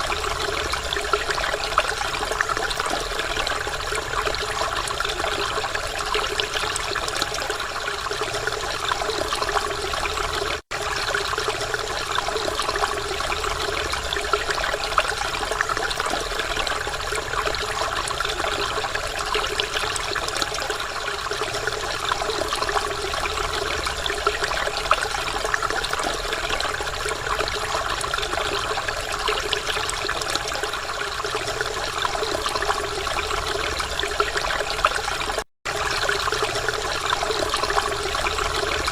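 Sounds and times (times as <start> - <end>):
waterfall: 0.0 - 38.9.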